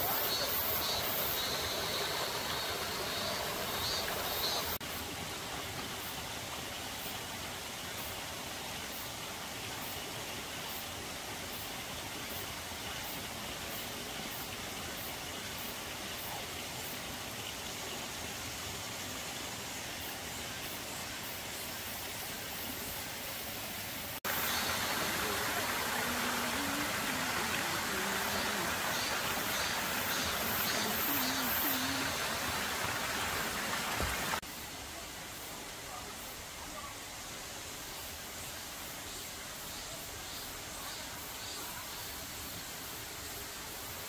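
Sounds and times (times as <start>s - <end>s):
stream water rushing: 0.0s - 44.0s.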